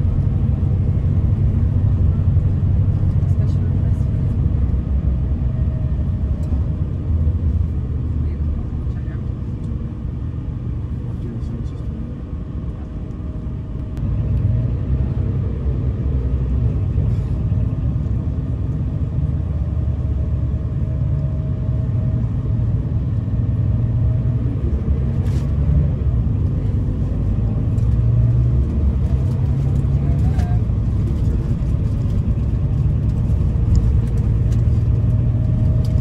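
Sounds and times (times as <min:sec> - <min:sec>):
diesel coach engine rumble: 0:00.0 - 0:36.0
road noise: 0:00.0 - 0:36.0.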